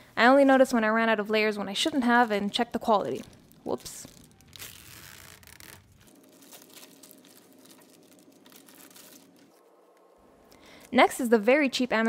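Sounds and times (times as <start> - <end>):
plastic mailer bag crinkling: 1.7 - 12.0.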